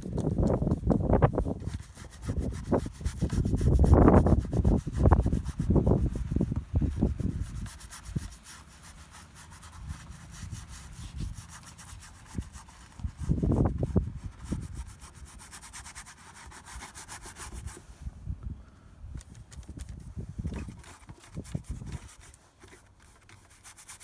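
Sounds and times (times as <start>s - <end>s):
paintbrush scrubbing on canvas: 0.2s - 17.9s, 19.7s - 24.0s.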